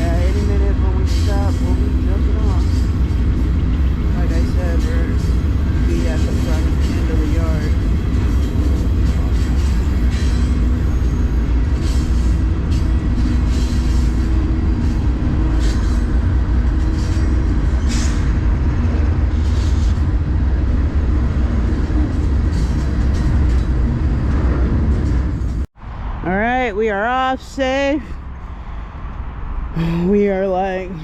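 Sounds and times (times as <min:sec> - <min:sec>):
freight train rumbling on rails: 0:00.0 - 0:31.0.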